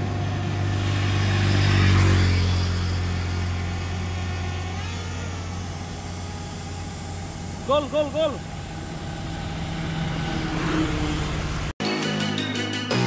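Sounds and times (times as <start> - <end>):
low engine hum: 0.0 - 11.8
motor vehicle passing: 0.0 - 11.8.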